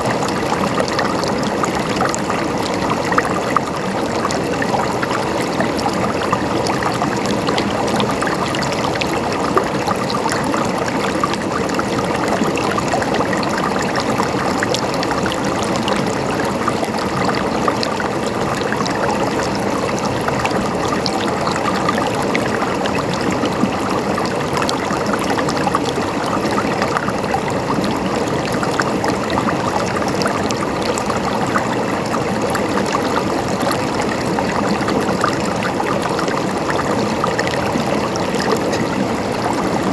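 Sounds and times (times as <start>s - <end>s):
small water splashes: 0.0s - 39.9s
water gurgling: 0.0s - 39.9s.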